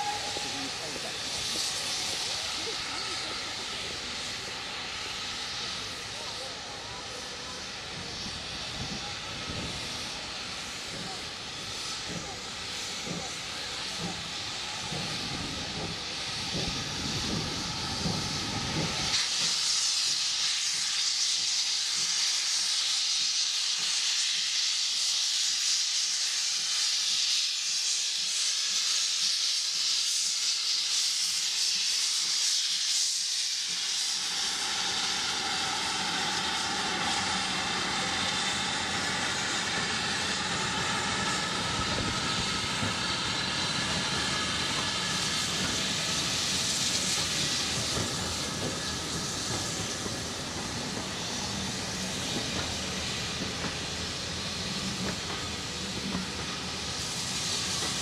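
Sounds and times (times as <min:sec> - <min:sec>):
loud hiss of steam: 0:00.0 - 0:58.0
train coaches rumbling on rails: 0:00.0 - 0:58.0.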